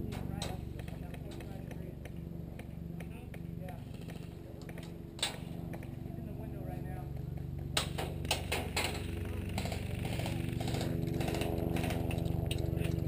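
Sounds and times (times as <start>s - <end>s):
motor-like hum: 0.0s - 13.0s
sharp clicks and knocks: 0.1s - 6.0s, 7.1s - 13.0s.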